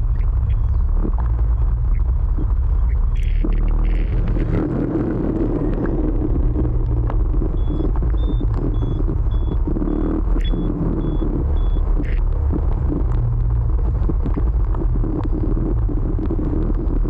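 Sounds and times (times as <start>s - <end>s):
scooter engine and road noise: 0.0s - 17.0s.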